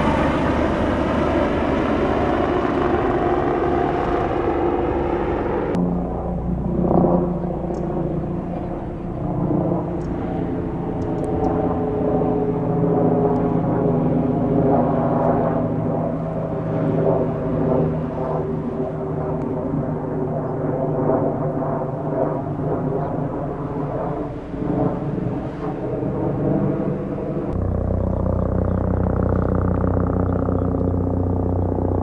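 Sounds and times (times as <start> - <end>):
helicopter flying overhead: 0.0 - 32.0.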